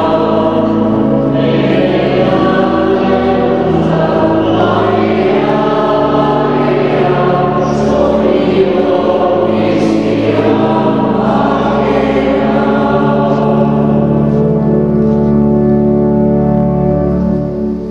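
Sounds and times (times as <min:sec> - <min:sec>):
choir singing held chords: 0:00.0 - 0:17.9.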